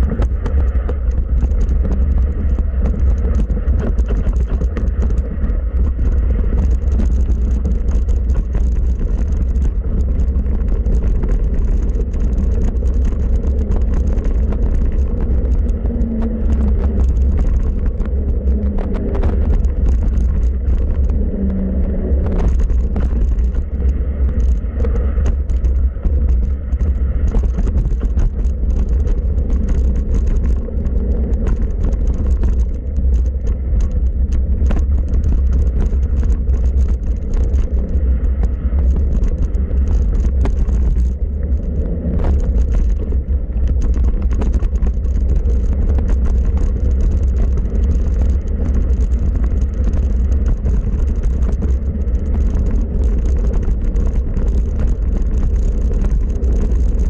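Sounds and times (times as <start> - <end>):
bike clicks and rattles: 0.0 - 57.0
tyres rolling on dirt: 0.0 - 57.0
wind on microphone: 0.0 - 57.0.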